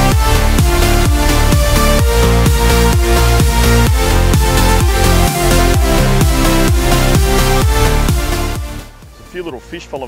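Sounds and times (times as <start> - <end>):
steady kick drum: 0.0 - 9.2
sustained synth chords: 0.0 - 9.3
electronic dance music: 0.0 - 10.0.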